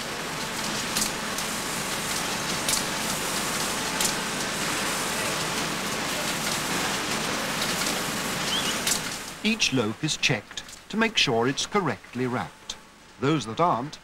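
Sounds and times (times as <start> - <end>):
conveyor machinery hissing: 0.0 - 14.0.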